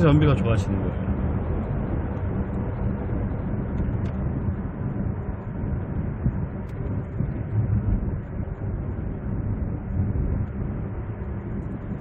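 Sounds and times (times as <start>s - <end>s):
road and engine noise in car cabin: 0.0s - 12.0s.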